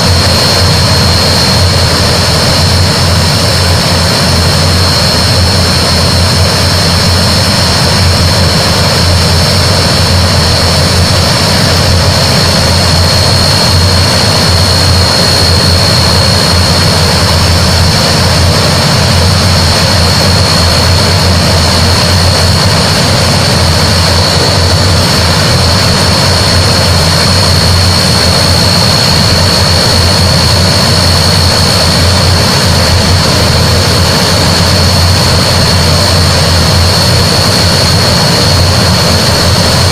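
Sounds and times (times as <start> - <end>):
high turbine whine: 0.0 - 39.9
propeller drone: 0.0 - 39.9.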